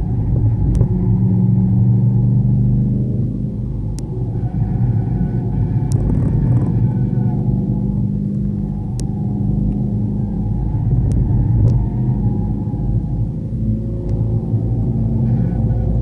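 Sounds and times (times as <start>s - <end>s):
car engine running hard: 0.0s - 16.0s
tyre and road rumble: 0.0s - 16.0s.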